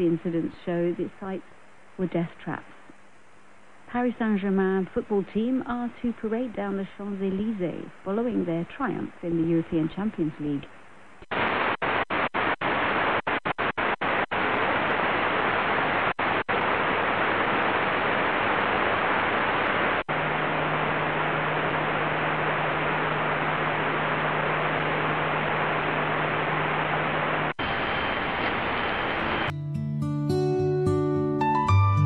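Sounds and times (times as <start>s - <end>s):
low steady hum: 0.0s - 11.4s, 14.8s - 29.5s
shortwave radio static hiss: 0.0s - 29.5s.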